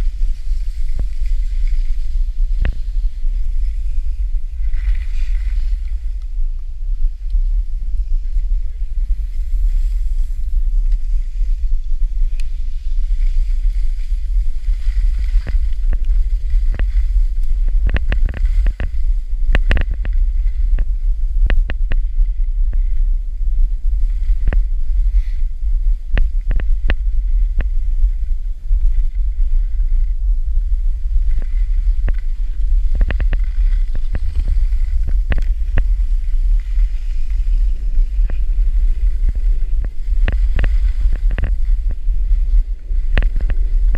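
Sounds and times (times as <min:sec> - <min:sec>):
skis sliding on snow: 0:00.0 - 0:43.9
wind buffeting microphone: 0:00.0 - 0:43.9.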